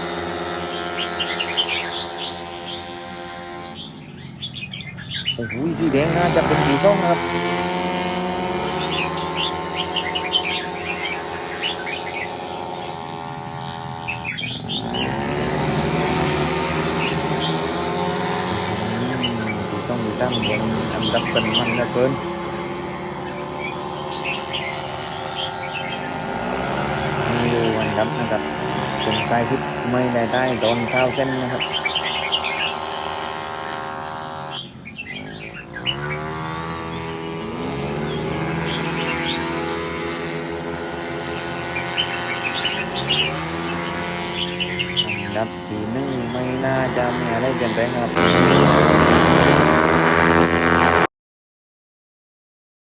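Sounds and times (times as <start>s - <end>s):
birds chirping: 0.0s - 51.1s
race car accelerating: 0.0s - 51.1s
scooter engines running hard: 0.0s - 51.1s.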